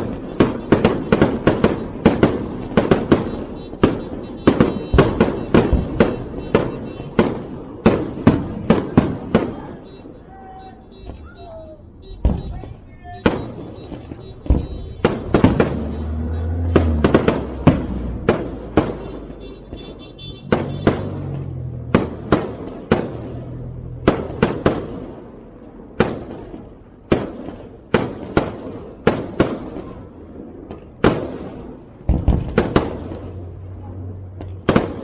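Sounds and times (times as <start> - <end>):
fireworks bursting with sharp booms: 0.0 - 35.0.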